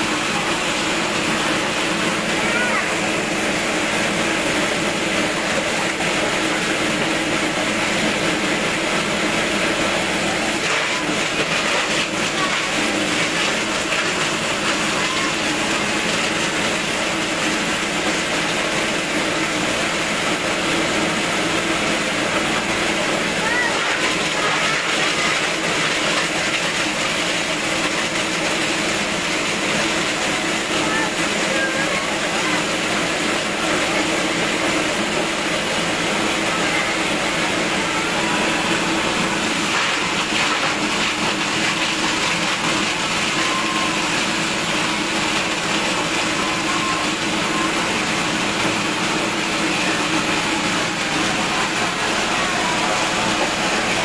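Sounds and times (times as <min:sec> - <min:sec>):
crusher machine droning: 0:00.0 - 0:54.0
plastic shredder running: 0:00.0 - 0:54.0.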